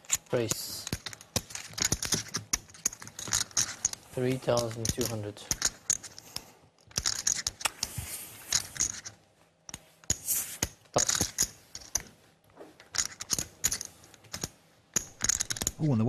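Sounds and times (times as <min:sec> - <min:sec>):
poker chips clicking: 0:00.0 - 0:07.9, 0:08.5 - 0:09.1, 0:10.0 - 0:12.0, 0:12.9 - 0:15.9.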